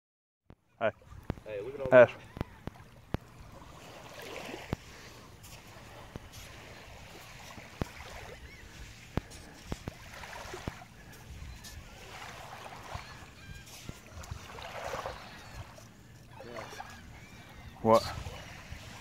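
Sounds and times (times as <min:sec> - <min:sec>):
ripples lapping on sandy shore: 0:00.9 - 0:19.0.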